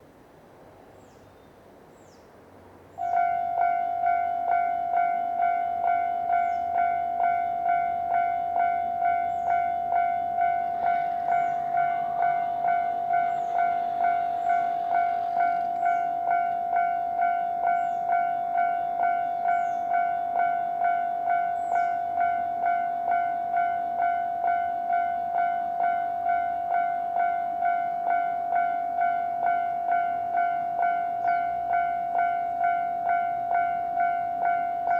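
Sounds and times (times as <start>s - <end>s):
level-crossing warning bell: 3.0s - 34.9s.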